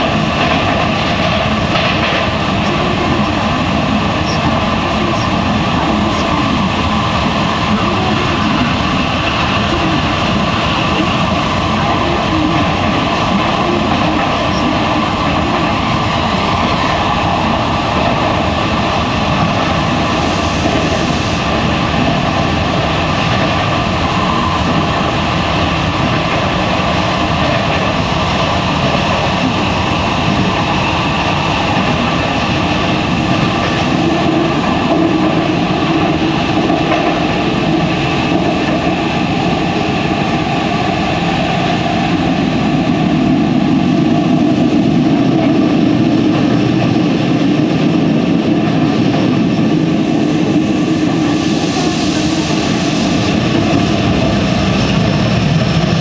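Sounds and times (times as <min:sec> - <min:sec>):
subway wheels on rail: 0:00.0 - 0:56.0.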